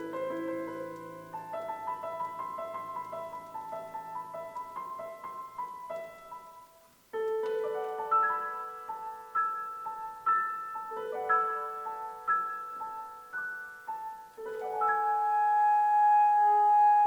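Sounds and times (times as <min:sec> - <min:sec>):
instrumental duet music: 0:00.0 - 0:17.0.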